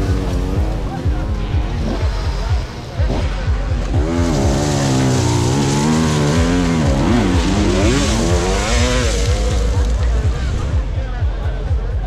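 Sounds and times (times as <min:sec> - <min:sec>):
motocross motorcycle engine revving: 0:00.0 - 0:11.0.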